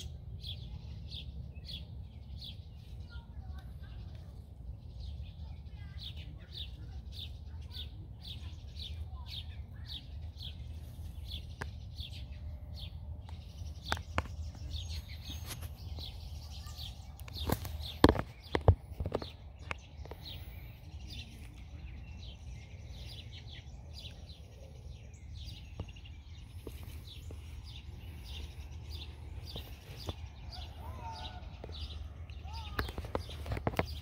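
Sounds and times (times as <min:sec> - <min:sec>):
birds chirping: 0:00.0 - 0:34.0
steady low rumble: 0:00.0 - 0:34.0.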